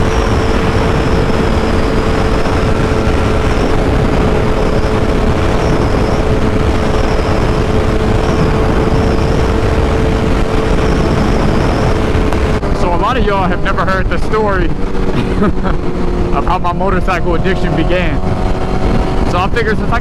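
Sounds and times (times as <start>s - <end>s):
motorcycle engine hum: 0.0s - 20.0s
wind rush on microphone: 0.0s - 20.0s.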